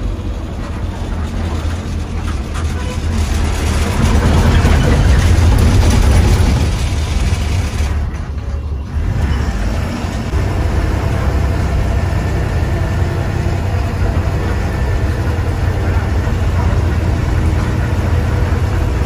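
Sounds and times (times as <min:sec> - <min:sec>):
bus engine rumble: 0:00.0 - 0:19.0
road and cabin noise: 0:00.0 - 0:19.0.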